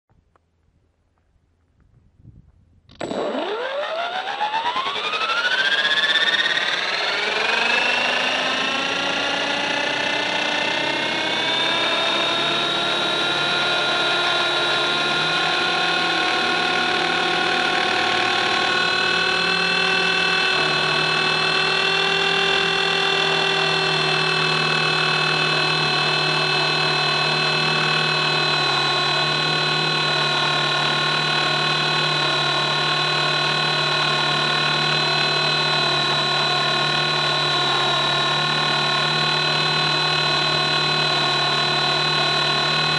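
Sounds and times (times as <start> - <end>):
rc helicopter motor whining: 2.9 - 42.9.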